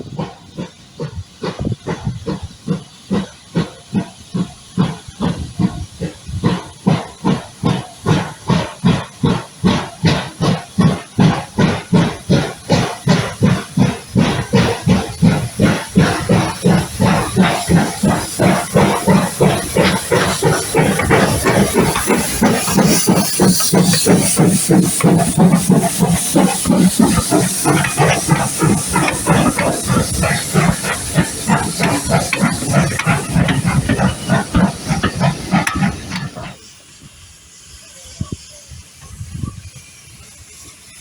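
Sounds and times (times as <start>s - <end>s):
steam hissing: 0.0s - 41.0s
steam locomotive exhaust chuffing: 0.0s - 41.0s.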